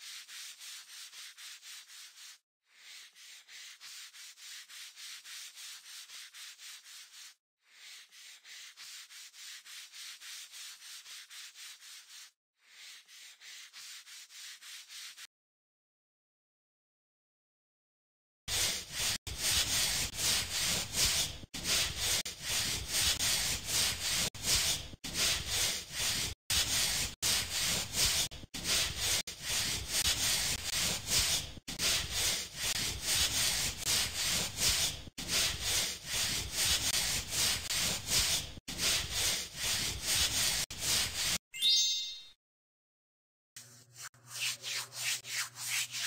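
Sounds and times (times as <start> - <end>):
brush scrubbing skin: 0.0 - 15.3, 18.5 - 41.4, 43.6 - 46.0.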